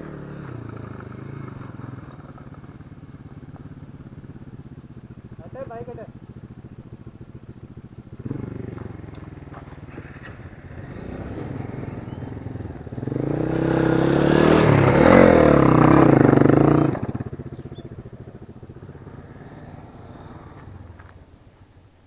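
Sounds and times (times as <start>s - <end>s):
motorcycle engine revving: 0.0s - 21.8s.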